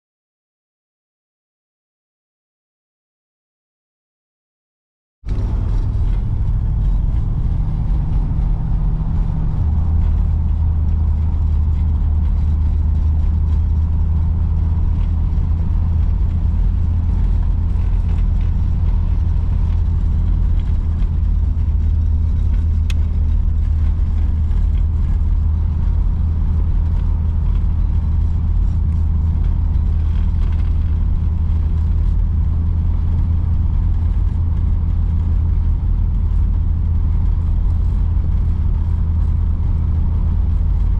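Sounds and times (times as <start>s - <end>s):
car engine droning: 5.3s - 40.9s.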